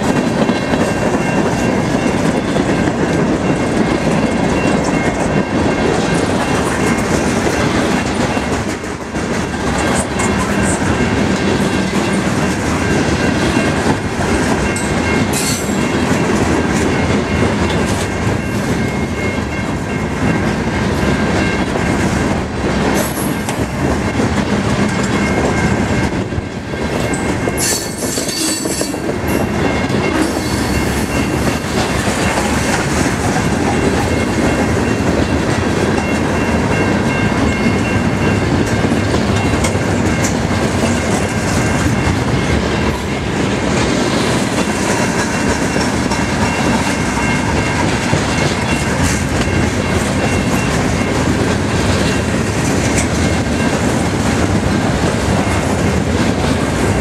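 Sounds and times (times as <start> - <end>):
train wheels rumbling and clacking: 0.0 - 57.0.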